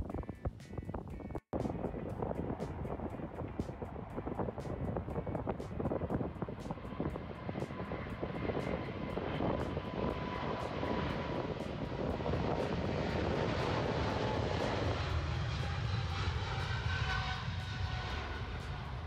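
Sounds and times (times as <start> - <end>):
jet engine roar: 1.6 - 19.0.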